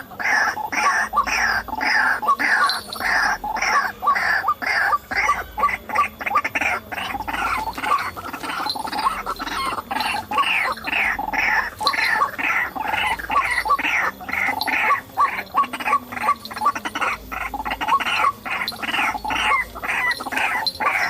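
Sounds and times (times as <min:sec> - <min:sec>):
bird harsh repeated calls: 0:00.0 - 0:21.0.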